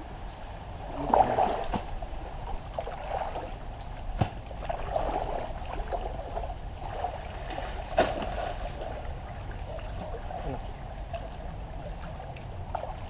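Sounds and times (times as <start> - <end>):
muddy water sloshing and splashing: 0.6 - 13.0.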